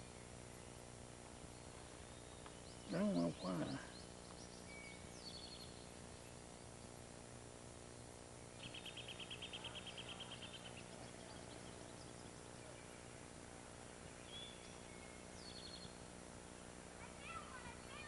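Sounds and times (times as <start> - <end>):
songbird trill: 0.0 - 7.1, 8.0 - 18.0
faint background hiss: 0.0 - 18.0.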